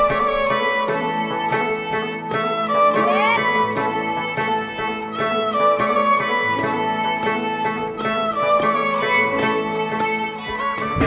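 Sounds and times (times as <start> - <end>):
bowed string melody: 0.0 - 11.0
plucked accompaniment: 0.0 - 11.0.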